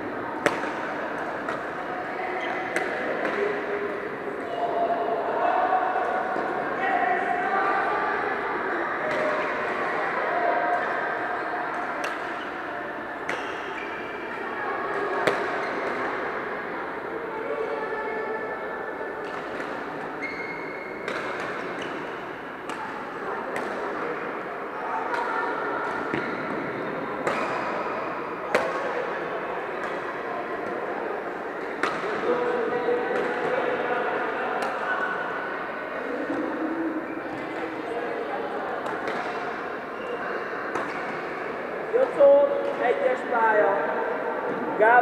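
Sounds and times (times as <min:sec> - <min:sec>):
sports hall hubbub: 0:00.0 - 0:45.0.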